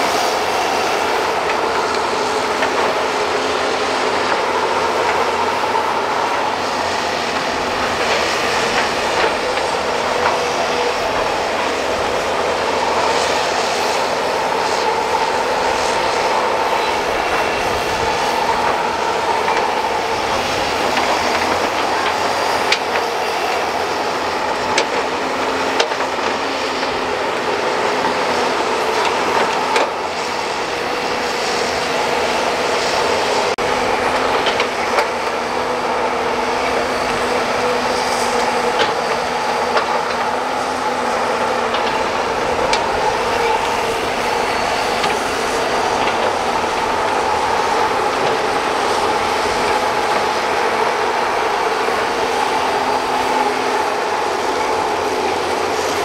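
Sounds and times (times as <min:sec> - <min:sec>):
excavator engine and hydraulic drone: 0:00.0 - 0:56.0.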